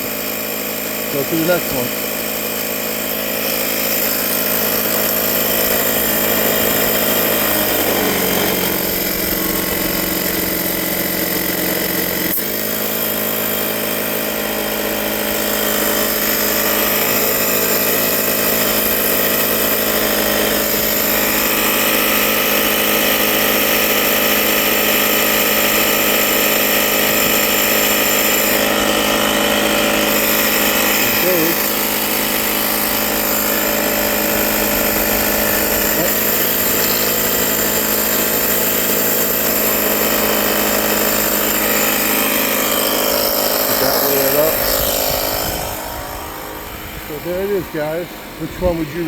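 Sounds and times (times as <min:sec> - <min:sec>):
motor-driven machine running: 0:00.0 - 0:49.0.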